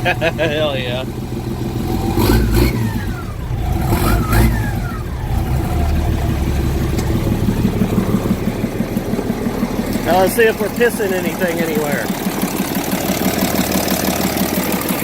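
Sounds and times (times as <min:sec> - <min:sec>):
diesel truck engine revving: 0:00.0 - 0:15.0
engine whine: 0:00.0 - 0:15.0.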